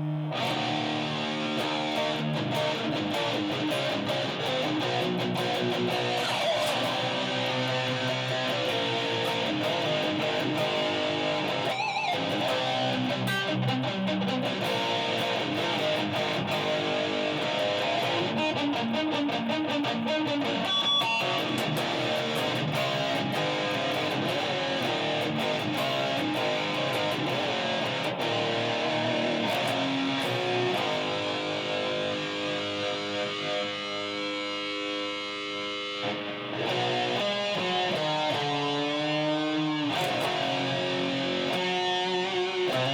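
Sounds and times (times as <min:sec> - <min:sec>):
electric guitar riffs: 0:00.0 - 0:42.9.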